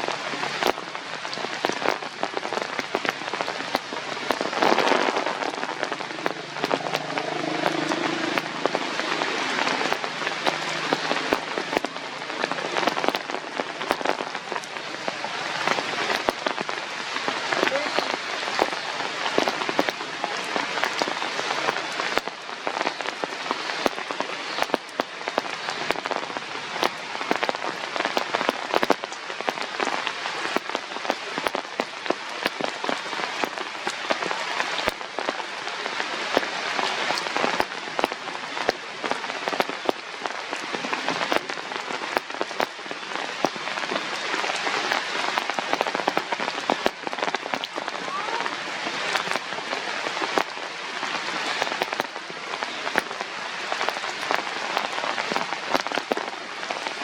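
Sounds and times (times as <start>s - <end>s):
rain on a hard surface: 0.0s - 57.0s.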